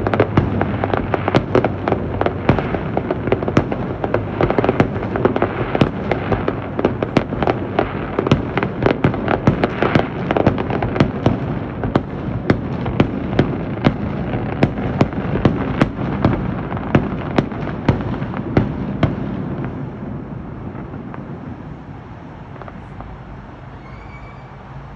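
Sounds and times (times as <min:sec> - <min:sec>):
fireworks bangs and crackles: 0:00.0 - 0:24.4
fireworks rumble: 0:00.0 - 0:24.9.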